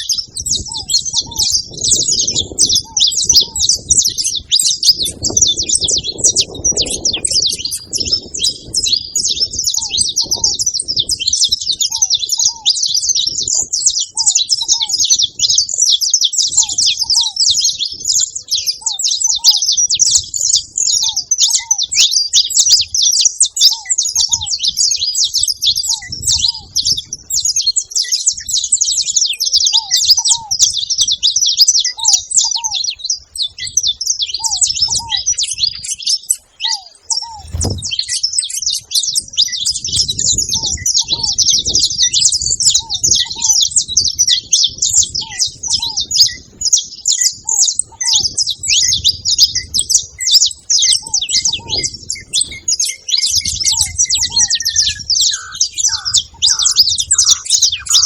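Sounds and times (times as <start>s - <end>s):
finches chirping and twittering: 0.0s - 58.0s.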